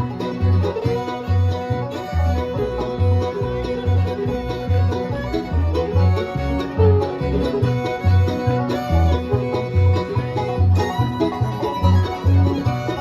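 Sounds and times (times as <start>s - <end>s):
bass line: 0.0s - 13.0s
fiddle: 0.0s - 13.0s
guitar: 0.0s - 13.0s
plucked banjo: 0.0s - 13.0s.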